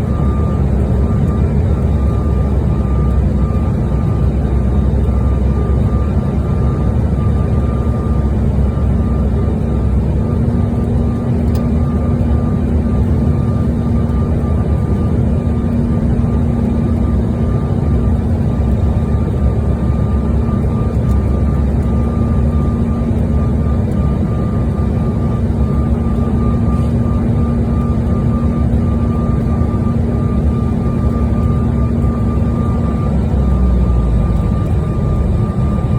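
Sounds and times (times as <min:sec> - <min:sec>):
airliner cabin drone: 0:00.0 - 0:35.9
low hum: 0:00.0 - 0:35.9.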